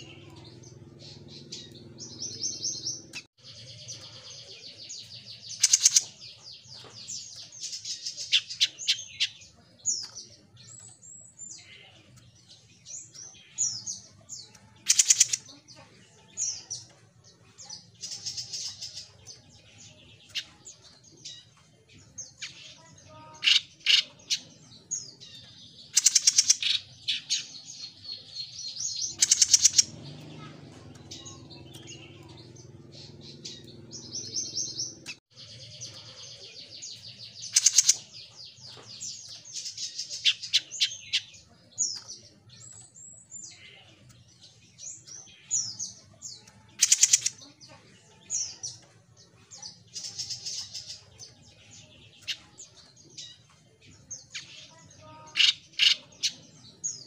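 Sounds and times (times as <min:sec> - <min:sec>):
songbird chirping and trilling: 0:00.0 - 0:57.0.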